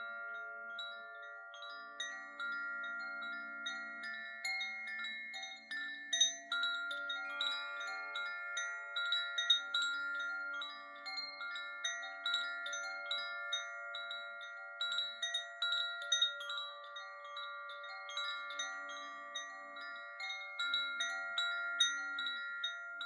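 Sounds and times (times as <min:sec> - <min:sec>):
soft chime music: 0:00.0 - 0:23.0.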